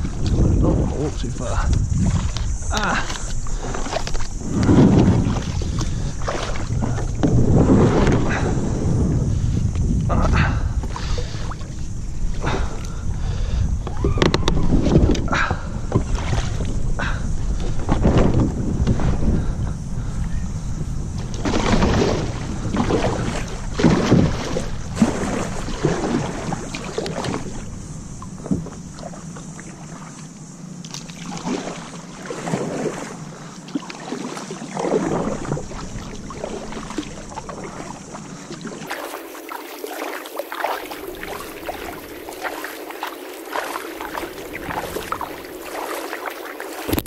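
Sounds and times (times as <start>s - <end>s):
paddle splashing in water: 0.0s - 19.5s, 21.1s - 47.0s.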